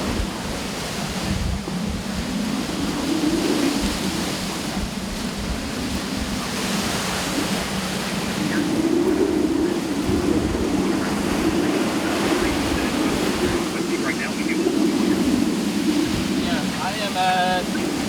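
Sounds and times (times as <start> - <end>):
strong wind gusting: 0.0 - 18.0
wind rumbling on microphone: 0.0 - 18.0.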